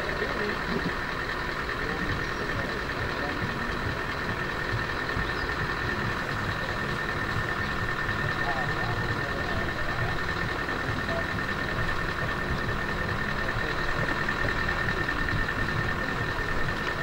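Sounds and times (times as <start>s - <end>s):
high whine: 0.0s - 17.0s
truck engine idling: 0.0s - 17.0s.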